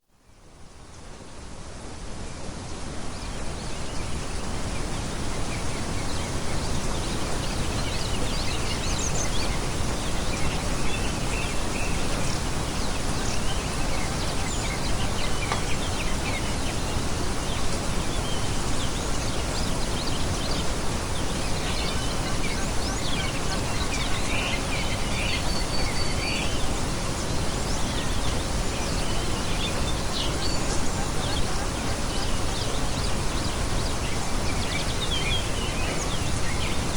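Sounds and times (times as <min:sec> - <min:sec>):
songbirds chirping: 0:00.2 - 0:36.9
steady rushing noise: 0:00.6 - 0:36.9.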